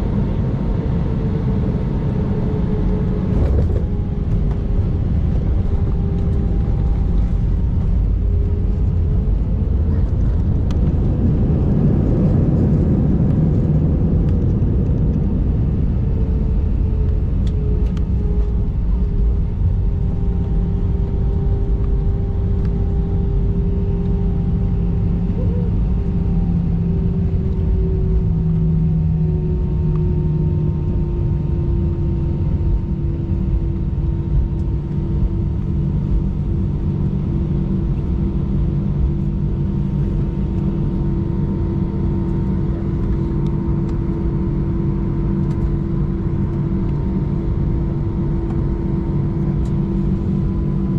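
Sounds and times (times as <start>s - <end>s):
airliner cabin rumble: 0.0s - 50.9s.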